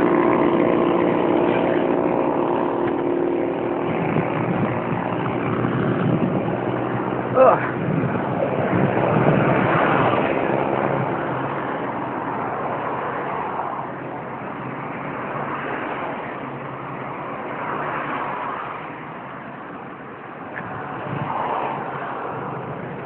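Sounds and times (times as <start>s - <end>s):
vehicle engine passing: 0.0s - 23.0s.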